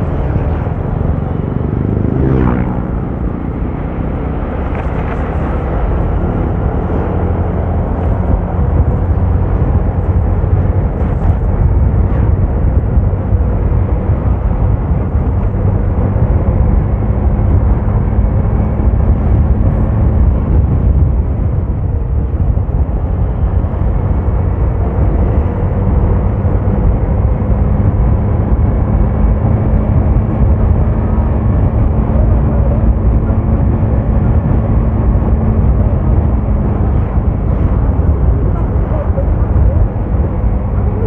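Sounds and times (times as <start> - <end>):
road and wind noise: 0.0 - 41.0
vehicle engine hum: 0.0 - 41.0.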